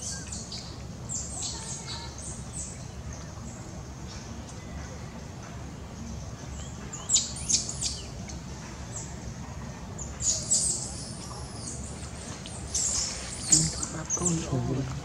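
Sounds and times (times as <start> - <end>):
faint low hum: 0.0 - 15.0
small birds chirping: 0.0 - 15.0.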